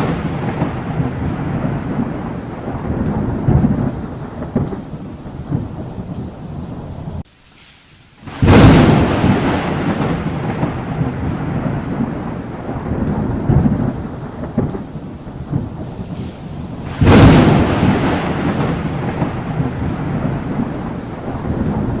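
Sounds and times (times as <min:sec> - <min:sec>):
loud thunder clap: 0:00.0 - 0:05.8, 0:08.3 - 0:22.0
thunder rumbling: 0:00.0 - 0:07.2, 0:08.3 - 0:22.0
steady rain: 0:00.0 - 0:22.0.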